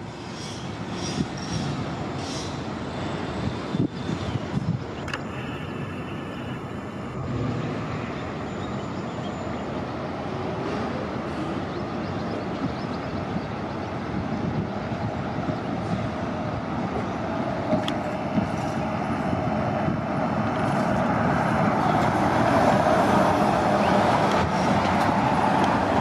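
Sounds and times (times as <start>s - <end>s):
bus engine approaching: 0.0s - 26.0s.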